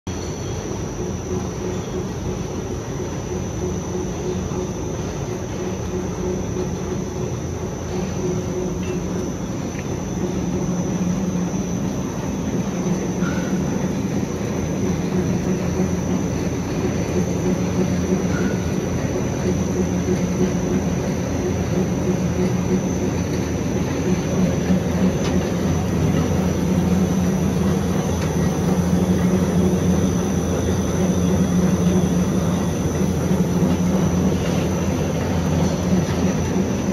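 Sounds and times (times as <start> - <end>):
high mechanical whine: 0.1 - 36.9
printing machine hum: 0.1 - 36.9.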